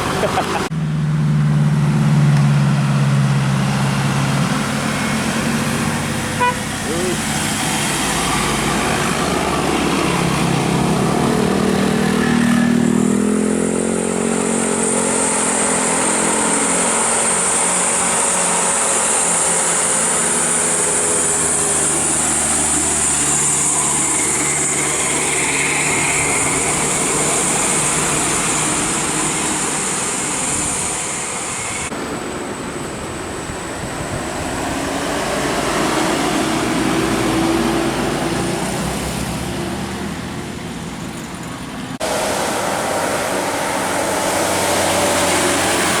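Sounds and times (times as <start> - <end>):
bus engines running: 0.0 - 46.0
road traffic: 0.0 - 46.0.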